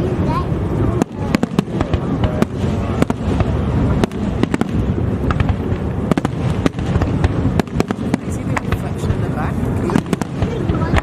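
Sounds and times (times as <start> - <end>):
fireworks cracking and banging: 0.0 - 11.0
low rumble of bursting shells: 0.0 - 11.0.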